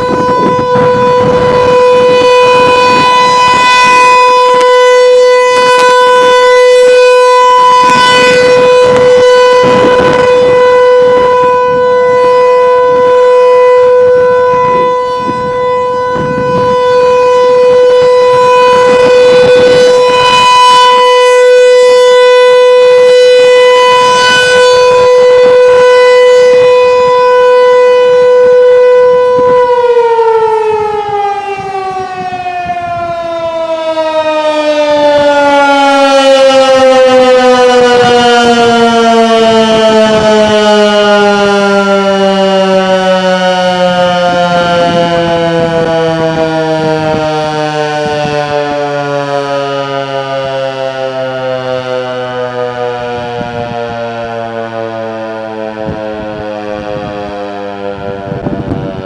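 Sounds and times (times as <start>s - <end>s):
tornado warning siren steady tone: 0.0s - 59.0s.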